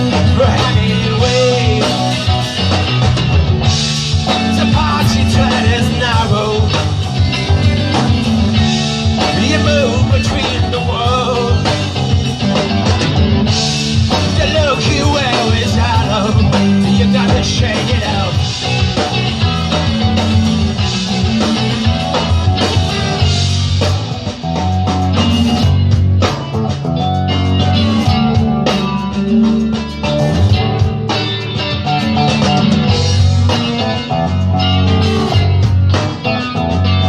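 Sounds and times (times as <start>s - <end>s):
live rock band playing: 0.0s - 37.0s.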